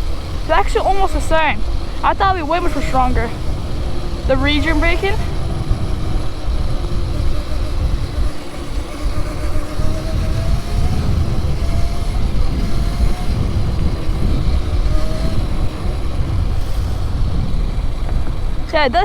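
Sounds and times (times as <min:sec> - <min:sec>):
electric motor whine: 0:00.0 - 0:19.0
low riding rumble: 0:00.0 - 0:19.0.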